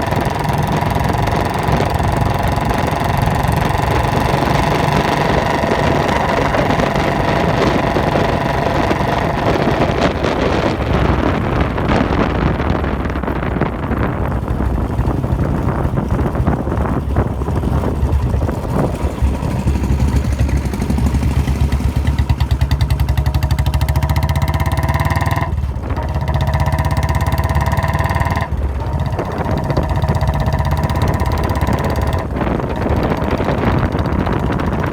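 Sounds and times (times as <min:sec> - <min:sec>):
motorcycle engine thumping: 0:00.0 - 0:34.9.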